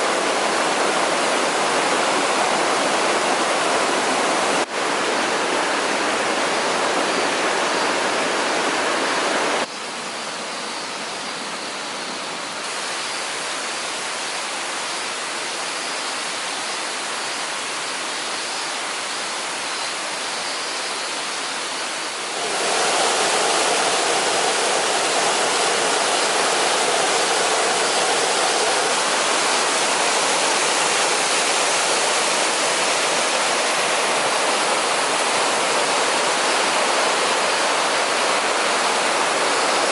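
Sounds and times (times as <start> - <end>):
waterfall rushing: 0.0 - 9.7, 12.6 - 39.9.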